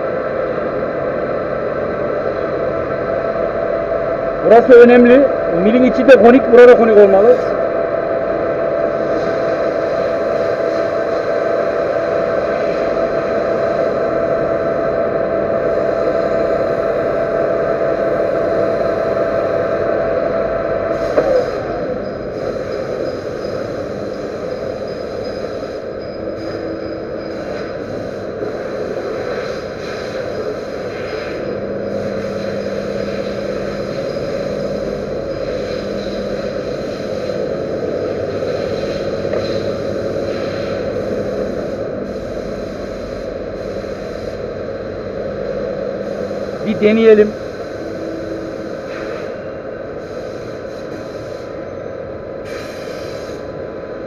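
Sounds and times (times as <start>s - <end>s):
metal lathe humming: 8.2s - 51.6s.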